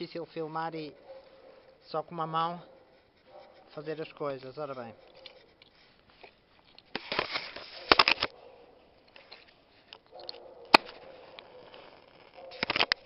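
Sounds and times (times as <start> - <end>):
rough scratching rub: 1.0 - 13.0.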